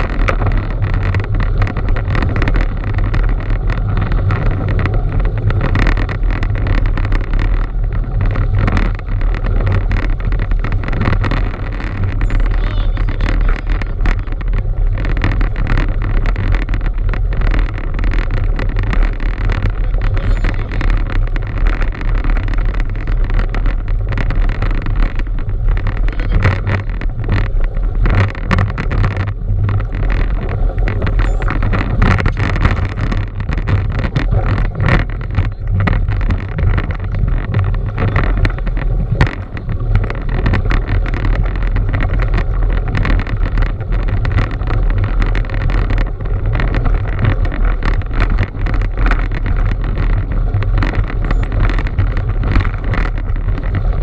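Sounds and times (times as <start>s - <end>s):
bike knocks and rattles: 0.0s - 54.0s
wind buffeting microphone: 0.0s - 54.0s.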